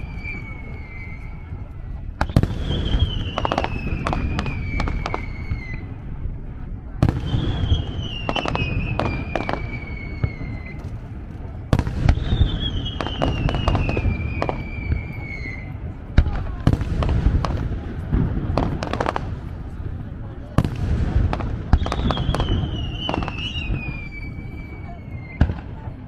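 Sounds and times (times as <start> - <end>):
falling fireworks whistle: 0.0 - 6.2, 7.0 - 17.6, 21.3 - 26.0
fireworks bursts: 0.0 - 26.0.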